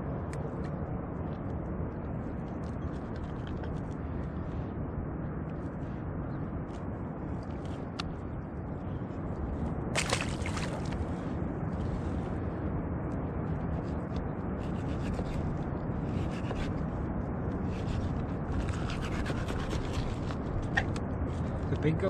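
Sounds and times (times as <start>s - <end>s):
steady rushing background: 0.0s - 22.0s.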